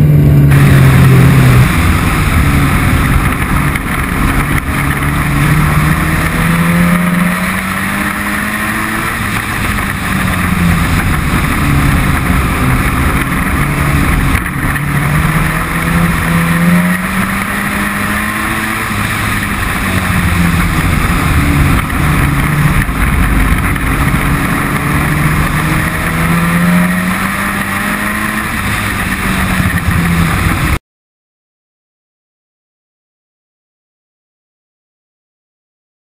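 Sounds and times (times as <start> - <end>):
truck engine accelerating: 0.0 - 30.8.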